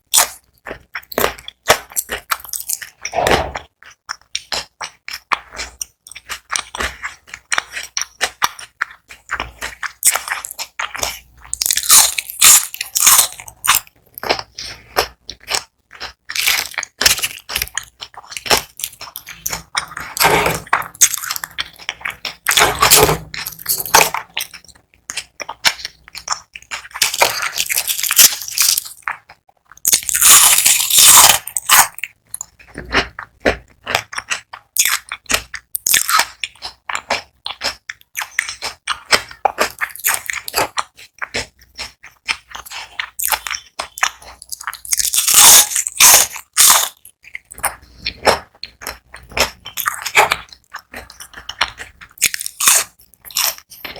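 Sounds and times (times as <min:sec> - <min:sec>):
crunching and chewing onion rings: 0:00.0 - 0:53.9.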